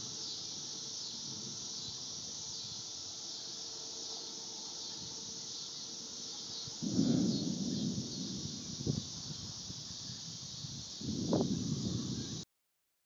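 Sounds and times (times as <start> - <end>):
faint steady hum: 0.0 - 12.4
insects droning: 0.0 - 12.4.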